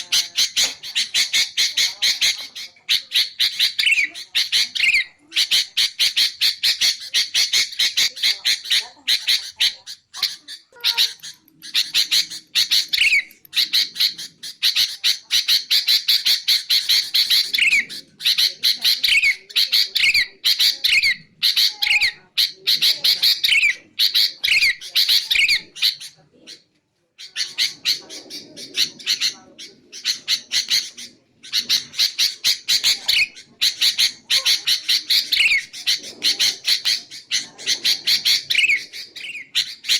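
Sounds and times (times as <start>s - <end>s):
bulbul calling: 0.0s - 26.6s, 27.2s - 39.9s.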